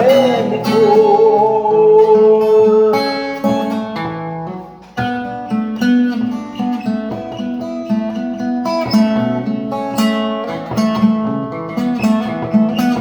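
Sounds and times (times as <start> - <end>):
acoustic guitar picking and strumming: 0.0 - 13.0.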